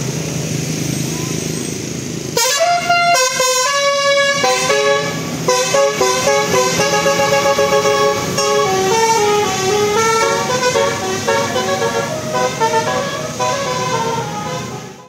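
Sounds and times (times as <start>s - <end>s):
bus air horn tune: 2.4s - 15.0s.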